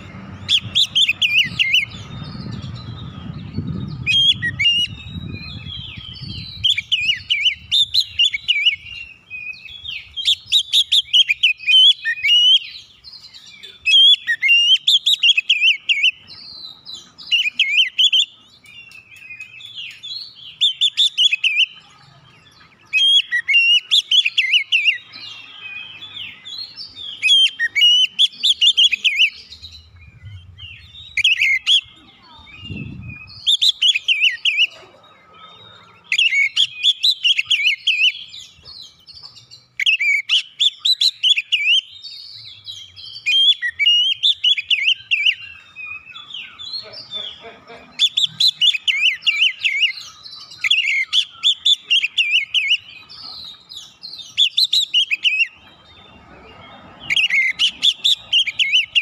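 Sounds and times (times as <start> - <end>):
bird singing chirps and whistles: 0.0 - 34.8, 35.4 - 46.8, 48.0 - 56.0, 56.6 - 59.0.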